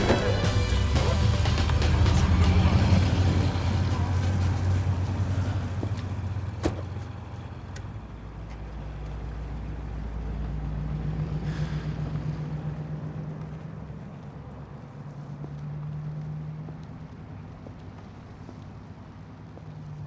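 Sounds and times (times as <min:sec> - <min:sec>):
vehicle engine driving away: 0:00.0 - 0:20.0.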